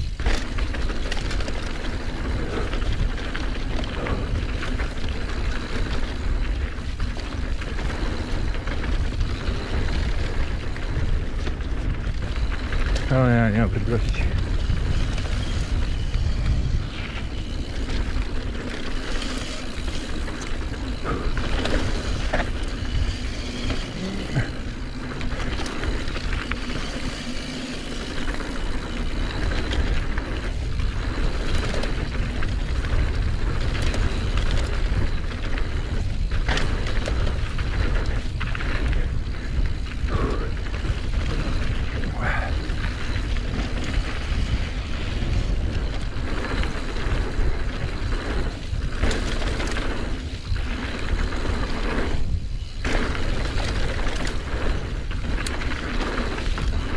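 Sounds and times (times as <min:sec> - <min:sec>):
bike rattling over bumps: 0:00.0 - 0:56.9
bike tyre noise: 0:00.0 - 0:56.9
wind on microphone: 0:01.4 - 0:27.4, 0:28.0 - 0:56.9.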